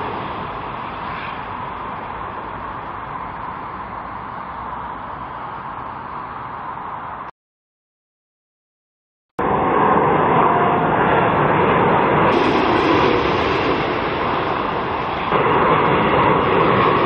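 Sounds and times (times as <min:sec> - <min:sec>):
jet engines roaring: 0:00.0 - 0:07.3, 0:09.4 - 0:17.0.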